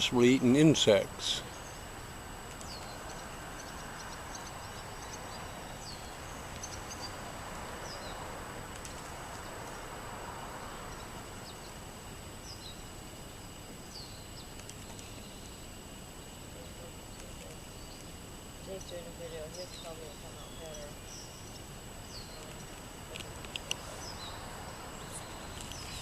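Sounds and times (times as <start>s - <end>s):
outdoor background hum: 0.0s - 26.0s
small birds chirping: 0.0s - 26.0s.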